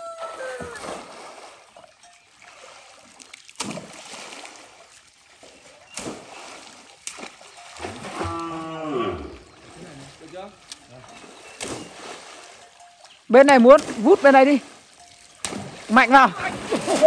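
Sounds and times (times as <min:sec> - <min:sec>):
sharp splashes: 0:00.0 - 0:17.0
water splashing in pond: 0:00.0 - 0:17.0.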